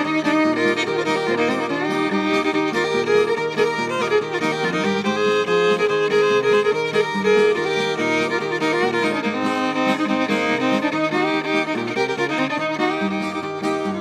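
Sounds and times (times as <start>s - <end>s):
bowed fiddle melody: 0.0s - 14.0s
plucked string accompaniment: 0.0s - 14.0s.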